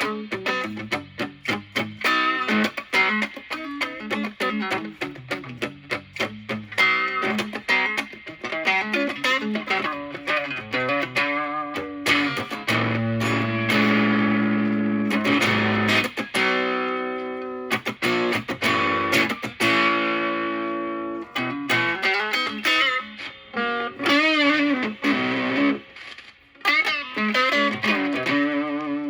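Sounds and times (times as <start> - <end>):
electric guitar lead phrases: 0.0 - 29.0
fuzzed electric guitar chords: 0.0 - 29.0.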